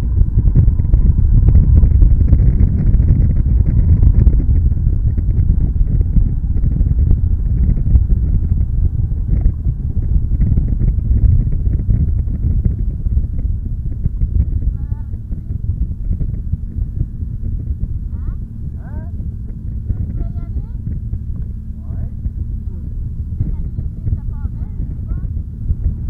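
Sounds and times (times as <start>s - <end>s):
atv engines rumbling: 0.0s - 26.0s.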